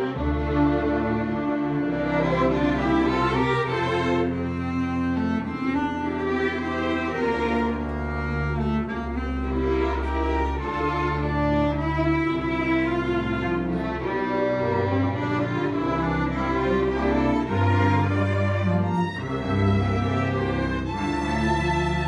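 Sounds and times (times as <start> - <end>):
string ensemble playing: 0.0 - 22.0.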